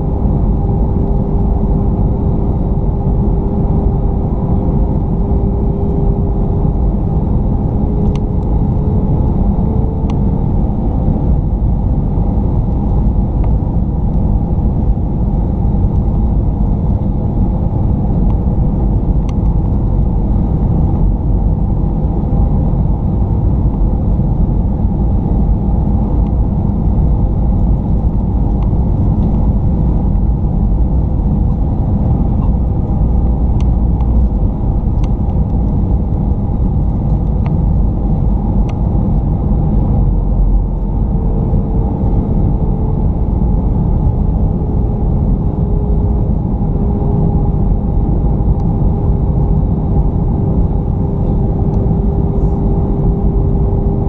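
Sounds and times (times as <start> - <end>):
faint steady hum: 0.0 - 54.0
jet engine and airflow rumble: 0.0 - 54.0.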